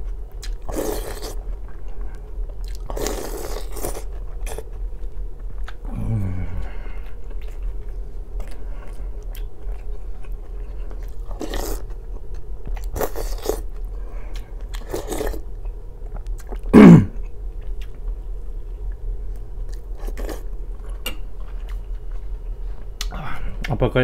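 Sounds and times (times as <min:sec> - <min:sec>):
person chewing food: 0:00.0 - 0:23.7.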